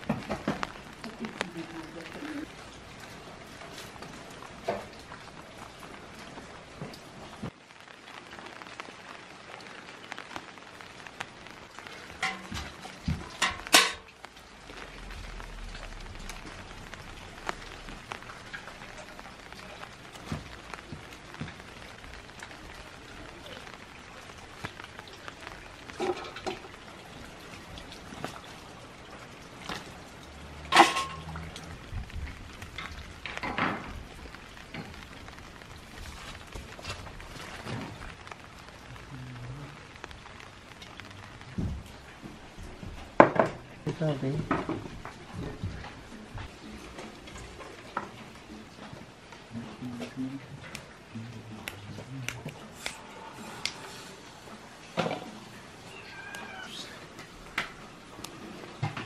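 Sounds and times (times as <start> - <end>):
light rain hissing: 0.0 - 59.0.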